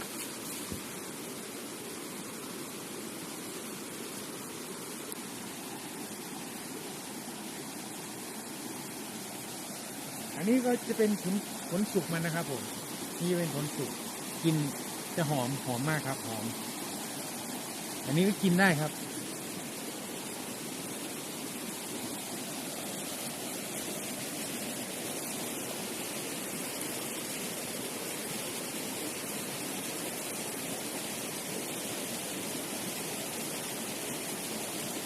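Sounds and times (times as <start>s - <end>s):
water rushing: 0.0s - 35.0s.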